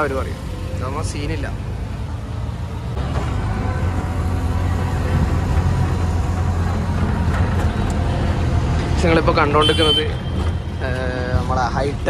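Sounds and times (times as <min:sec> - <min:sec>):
rickshaw engine running: 0:00.0 - 0:12.0
road and traffic noise: 0:00.0 - 0:12.0.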